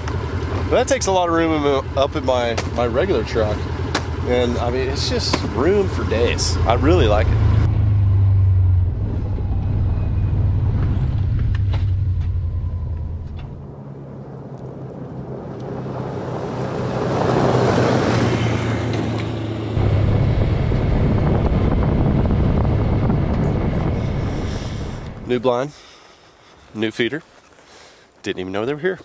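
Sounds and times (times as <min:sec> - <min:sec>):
low engine drone: 0:00.0 - 0:25.8
vehicle passing on gravel: 0:00.0 - 0:27.2.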